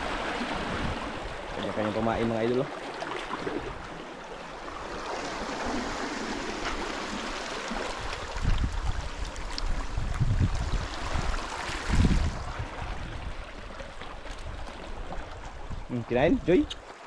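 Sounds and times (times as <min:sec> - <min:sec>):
water rushing among rocks: 0:00.0 - 0:17.0.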